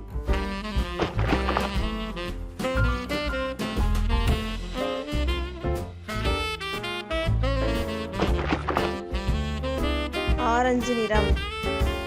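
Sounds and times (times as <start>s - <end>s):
upbeat instrumental music: 0.0s - 12.0s
saxophone lead notes: 0.2s - 12.0s.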